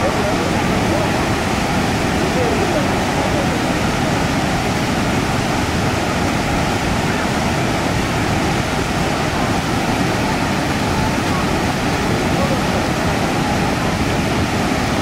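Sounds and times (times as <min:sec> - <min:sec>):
waterfall gushing: 0:00.0 - 0:15.0.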